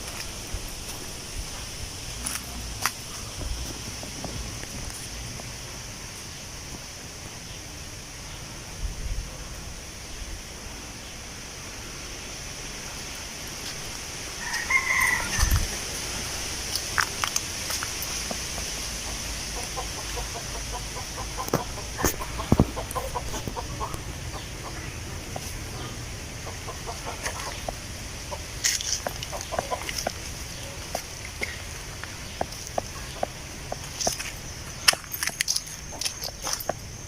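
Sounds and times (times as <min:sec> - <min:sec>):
wind through tree leaves: 0:00.0 - 0:37.0.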